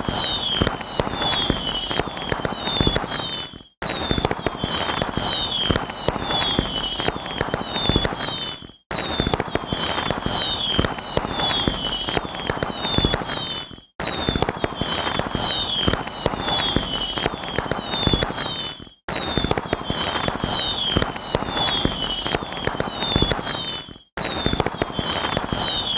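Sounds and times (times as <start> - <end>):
fireworks crackling: 0.0 - 25.9
short falling whistles: 0.0 - 25.9.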